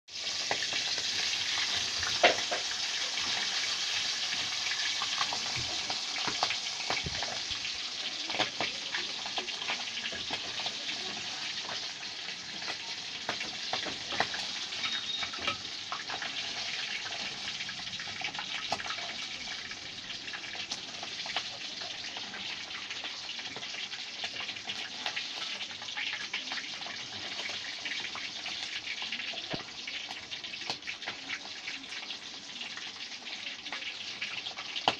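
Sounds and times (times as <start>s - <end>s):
crackles and pops: 0.1s - 34.9s
food sizzling in a pan: 0.1s - 34.9s.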